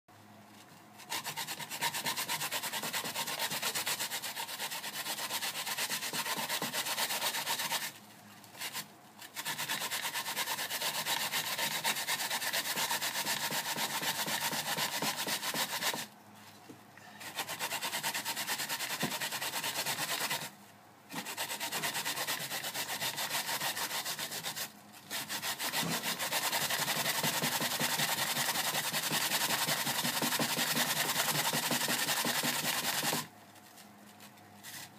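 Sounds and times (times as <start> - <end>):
radish grating on plastic grater: 1.0 - 8.0, 8.6 - 16.1, 17.2 - 20.5, 21.1 - 33.3.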